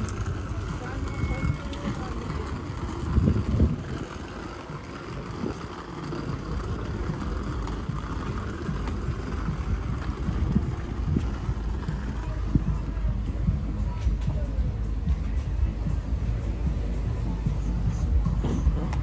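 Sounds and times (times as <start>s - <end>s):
outdoor street noise: 0.0s - 19.0s
wind buffeting microphone: 0.0s - 19.0s.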